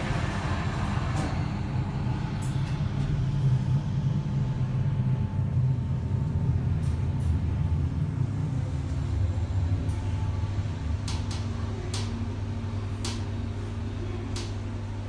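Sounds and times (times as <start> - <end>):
elevator low hum: 0.0 - 15.0.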